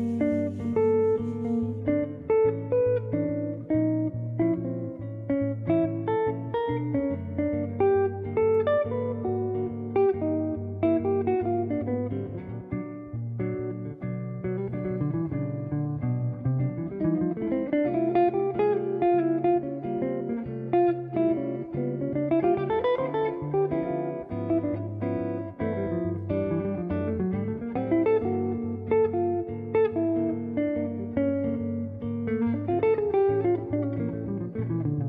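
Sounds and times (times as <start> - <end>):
jazz guitar: 0.0 - 35.0.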